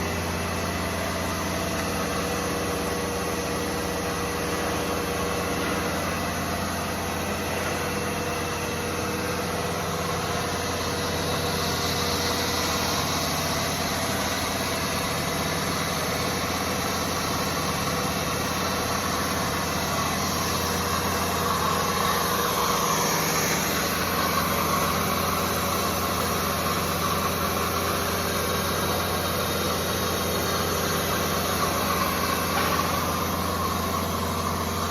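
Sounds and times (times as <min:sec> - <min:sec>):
air compressor humming and whirring: 0:00.0 - 0:34.9.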